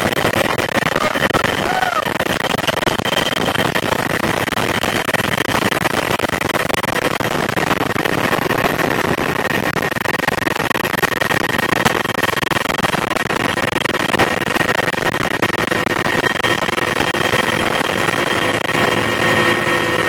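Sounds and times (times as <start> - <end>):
helicopter rotor and engine noise: 0.0 - 20.0
high turbine whine: 0.0 - 20.0.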